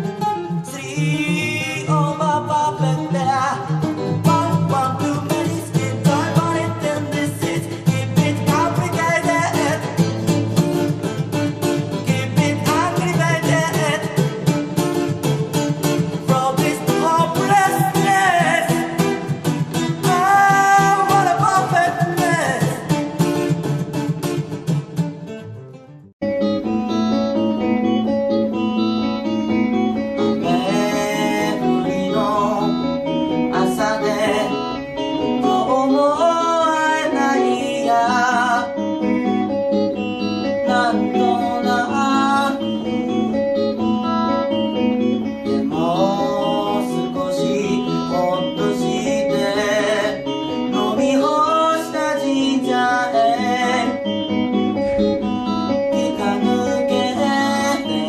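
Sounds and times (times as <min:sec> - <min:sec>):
electric guitar lead line: 0:00.0 - 0:58.0.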